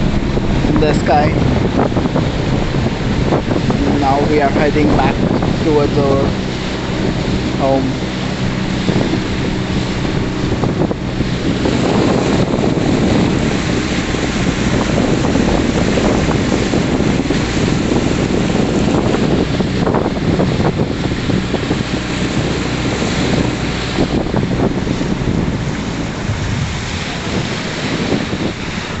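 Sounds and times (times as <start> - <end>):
low steady drone: 0.0 - 29.0
water rushing along hull: 0.0 - 29.0
wind buffeting microphone: 0.0 - 29.0.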